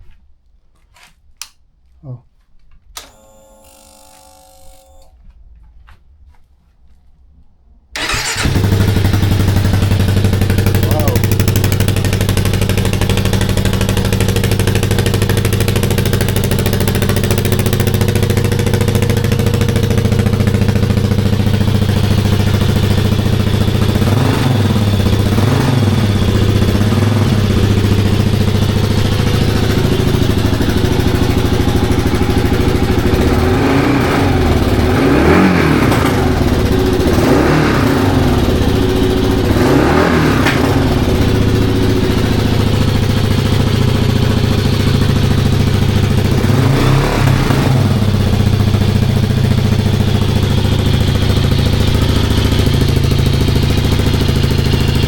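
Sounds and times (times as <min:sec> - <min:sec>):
motorcycle engine idling and revving: 0:08.0 - 0:55.0.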